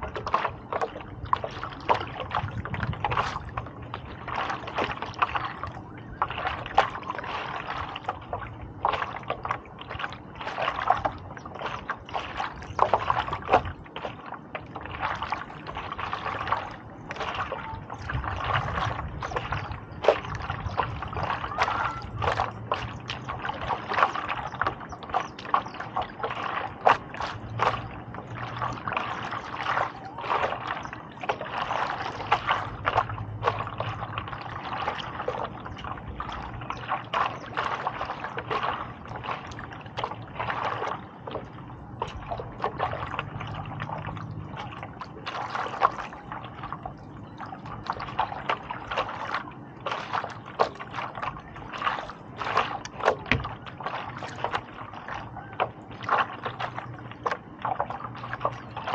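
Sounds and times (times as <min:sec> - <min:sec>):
paddle splashing through water: 0:00.0 - 0:58.9
water trickling: 0:00.0 - 0:58.9.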